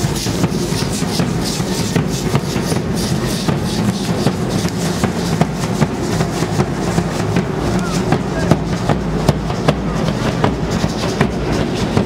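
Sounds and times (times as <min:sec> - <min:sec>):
drum beats: 0:00.0 - 0:12.0
shaken rattles: 0:00.0 - 0:12.0.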